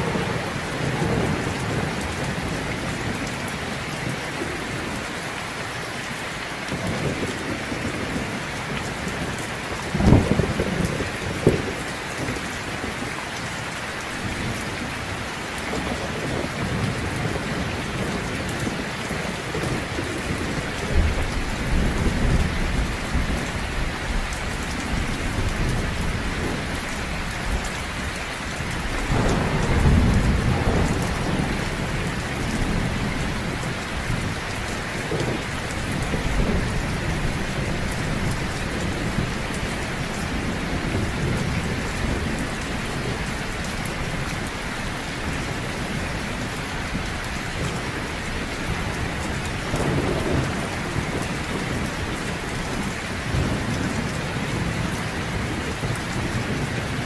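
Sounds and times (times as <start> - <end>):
rolling thunder: 0.0 - 5.1, 6.7 - 13.0, 15.7 - 57.0
heavy rain: 0.0 - 57.0.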